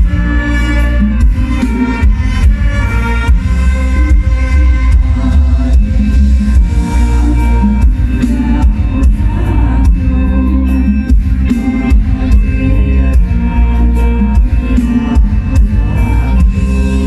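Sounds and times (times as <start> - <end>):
steady drum beat: 0.0 - 17.0.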